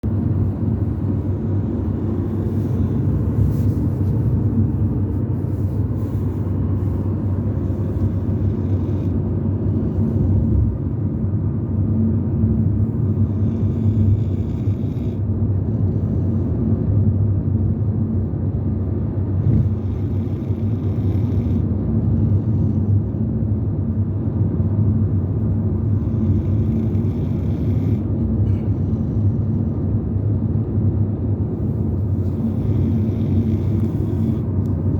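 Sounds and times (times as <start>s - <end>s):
car engine rumble from inside: 0.0s - 34.9s.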